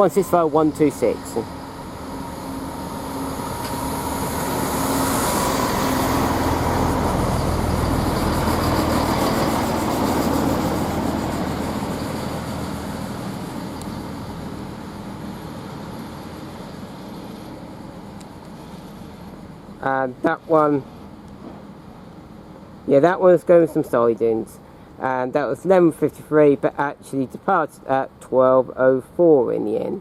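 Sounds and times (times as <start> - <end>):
rail noise: 0.0 - 28.2
diesel train engine drone: 0.0 - 30.0.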